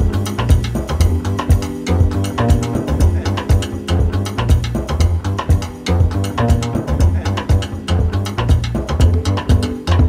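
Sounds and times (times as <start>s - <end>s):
jazz music: 0.0s - 10.0s
plucked double bass: 0.0s - 10.0s.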